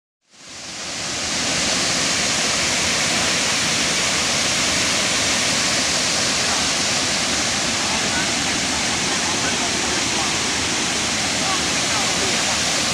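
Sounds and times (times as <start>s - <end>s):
waterfall rushing: 0.3s - 12.9s.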